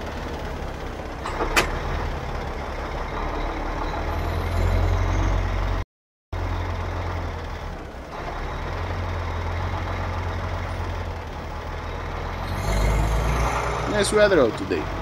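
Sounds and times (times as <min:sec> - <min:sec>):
truck engine rumble: 0:00.0 - 0:05.8, 0:06.4 - 0:15.0.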